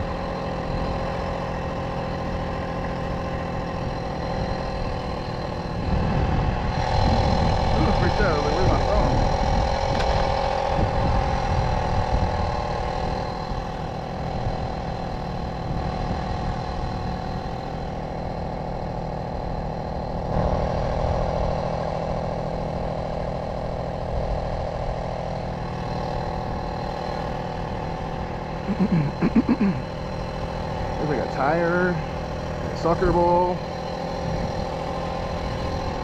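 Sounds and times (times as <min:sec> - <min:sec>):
two-stroke moped engine running: 0:00.0 - 0:36.0.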